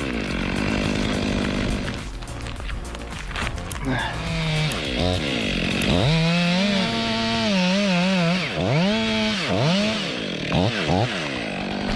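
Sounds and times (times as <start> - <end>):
chainsaw engine revving: 0.0 - 2.5, 3.7 - 11.9.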